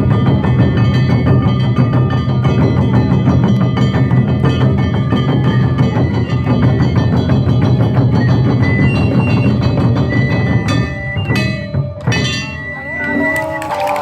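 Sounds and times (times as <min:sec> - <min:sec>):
pitched instruments: 0:00.0 - 0:13.7.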